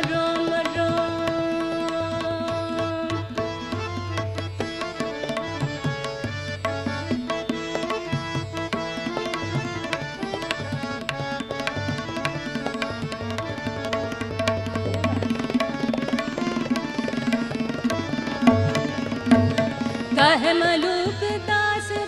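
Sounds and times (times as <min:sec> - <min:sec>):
tabla playing: 0:00.0 - 0:22.0
tanpura drone: 0:00.0 - 0:22.0.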